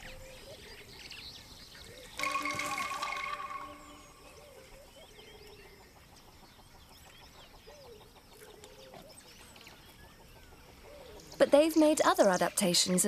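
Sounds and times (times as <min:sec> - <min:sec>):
birds calling low and arching: 0:00.0 - 0:12.5
birds chirping: 0:00.0 - 0:13.0.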